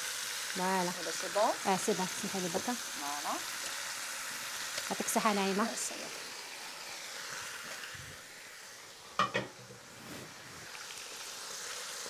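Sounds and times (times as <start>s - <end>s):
quail sizzling in hot fat: 0.0s - 12.0s.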